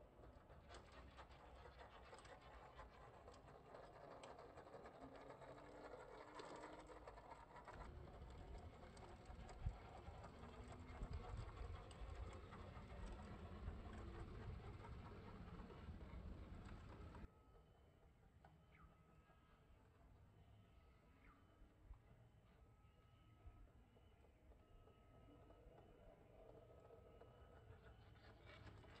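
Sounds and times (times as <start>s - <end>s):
faint outdoor ambience: 0.0s - 29.0s.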